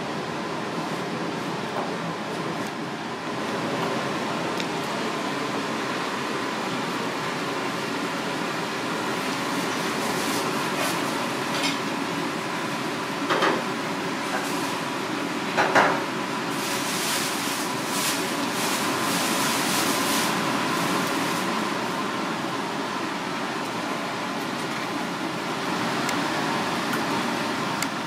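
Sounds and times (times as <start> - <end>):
kitchen hiss and hum: 0.0 - 28.0
water boiling in a pan: 3.1 - 28.0.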